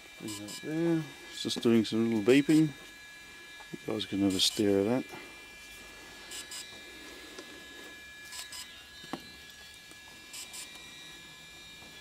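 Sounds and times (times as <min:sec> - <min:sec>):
electronic hum and whine: 0:00.0 - 0:12.0.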